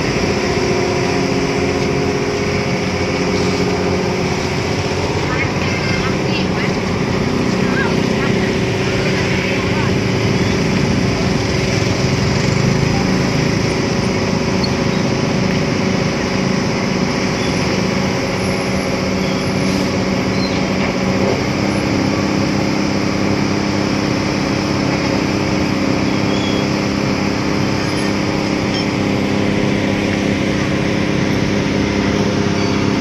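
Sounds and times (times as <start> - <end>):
engines running steadily: 0.0 - 33.0.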